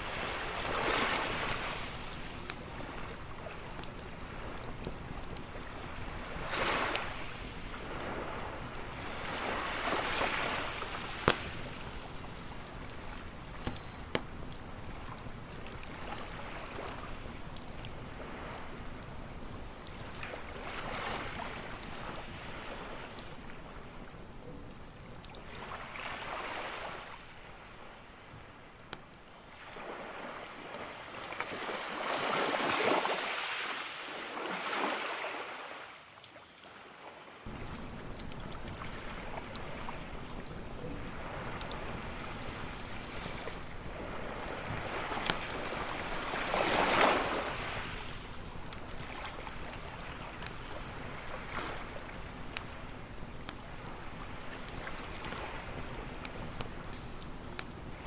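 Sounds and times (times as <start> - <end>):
campfire crackling and popping: 0.0 - 30.3, 37.4 - 58.0
waves washing onto beach: 0.0 - 58.0.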